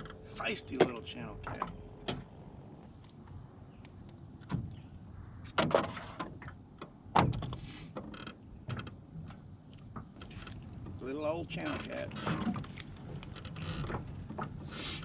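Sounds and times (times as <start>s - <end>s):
knocks and thumps in a boat: 0.0s - 2.4s, 4.4s - 15.0s.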